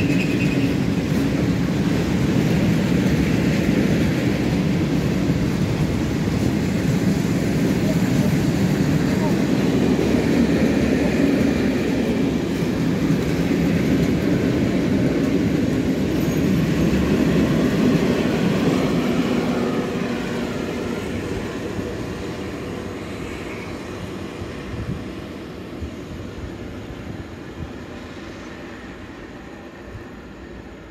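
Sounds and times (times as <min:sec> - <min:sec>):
train wheels on rails: 0:00.0 - 0:30.9.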